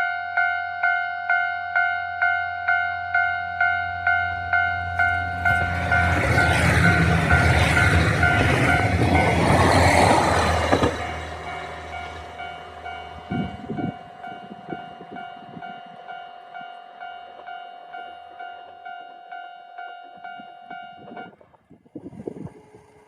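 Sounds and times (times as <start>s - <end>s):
diesel train passing: 0.8s - 23.0s.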